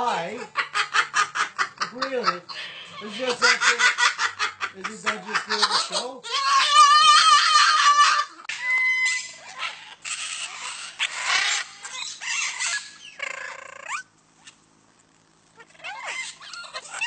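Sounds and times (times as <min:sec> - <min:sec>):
parrots squawking: 0:00.0 - 0:14.6, 0:15.6 - 0:17.0.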